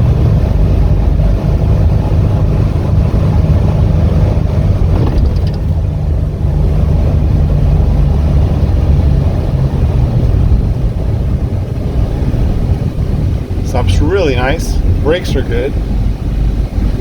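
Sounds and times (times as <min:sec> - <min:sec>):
road noise: 0:00.0 - 0:17.0
truck diesel engine running: 0:00.0 - 0:17.0.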